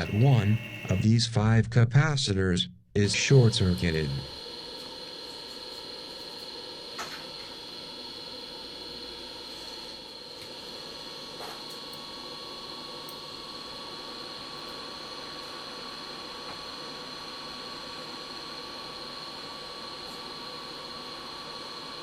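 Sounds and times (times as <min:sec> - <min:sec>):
electrical hum and hiss: 0:00.0 - 0:22.0.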